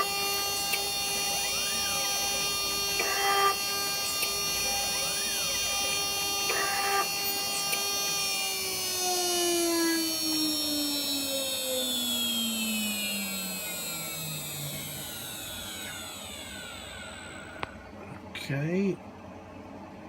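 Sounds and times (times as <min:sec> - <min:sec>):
spindle motor whine spinning down: 0:00.0 - 0:20.0.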